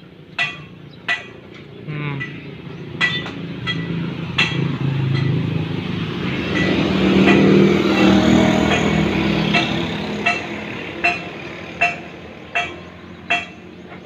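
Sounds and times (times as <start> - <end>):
vehicle engine passing: 0.8 - 14.0.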